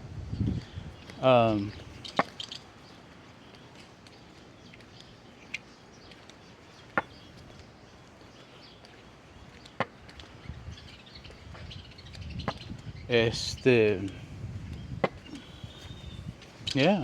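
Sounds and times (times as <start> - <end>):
faint background noise: 0.0 - 17.0.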